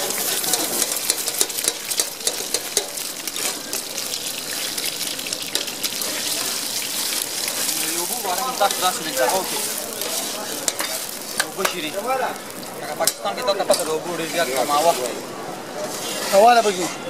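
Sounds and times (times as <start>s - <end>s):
egg frying in oil: 0.0s - 16.4s
spitting oil crackle: 0.0s - 16.8s.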